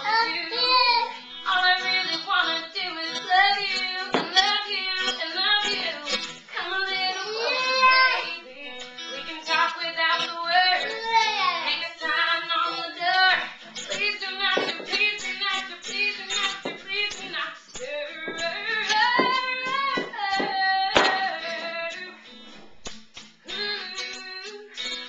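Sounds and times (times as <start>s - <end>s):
girl singing: 0.0s - 22.2s, 23.5s - 25.0s.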